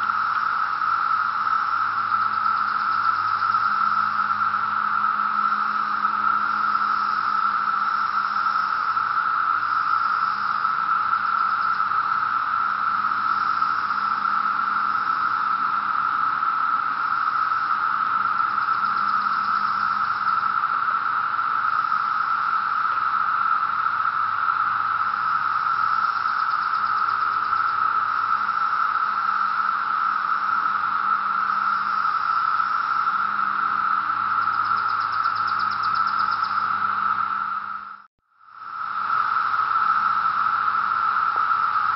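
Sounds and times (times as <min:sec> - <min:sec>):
cicadas droning: 0:00.0 - 0:41.9.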